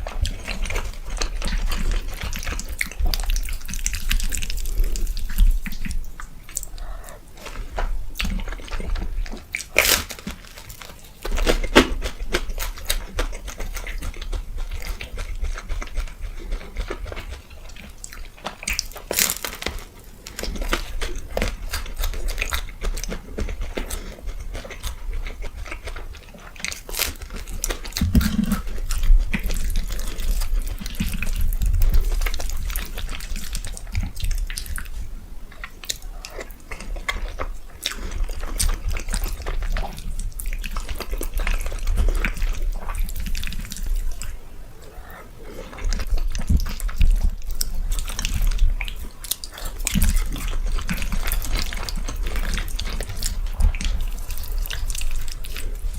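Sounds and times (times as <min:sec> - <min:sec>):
wet chewing and mouth clicks: 0:00.0 - 0:55.9.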